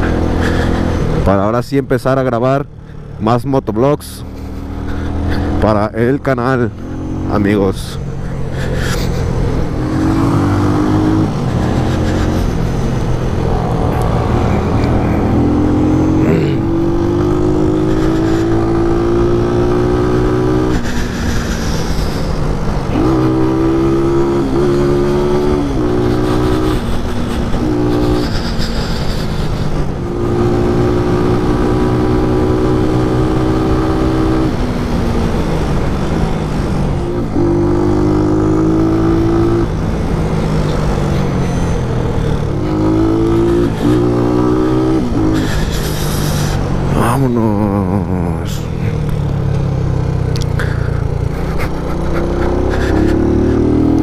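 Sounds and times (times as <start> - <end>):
motorcycle engine accelerating: 0.0 - 1.3, 4.1 - 54.0.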